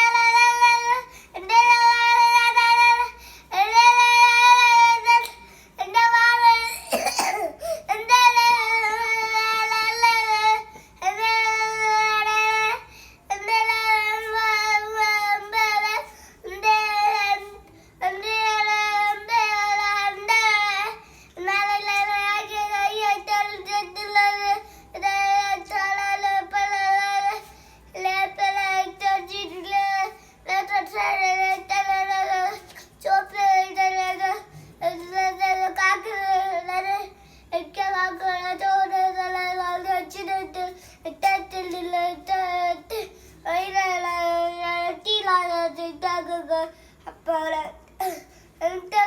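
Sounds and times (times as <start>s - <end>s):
child singing: 0.0s - 49.0s.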